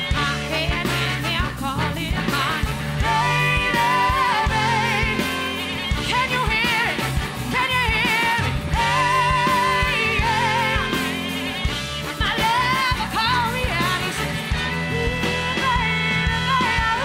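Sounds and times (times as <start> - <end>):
rock band playing: 0.0 - 17.0
woman singing with vibrato: 0.2 - 17.0.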